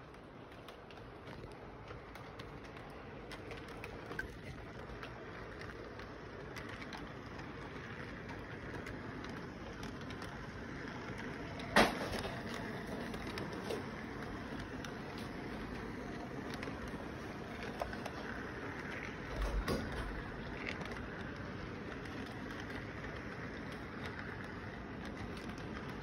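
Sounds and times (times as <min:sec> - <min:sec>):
model train rolling rumble: 0:00.0 - 0:26.0.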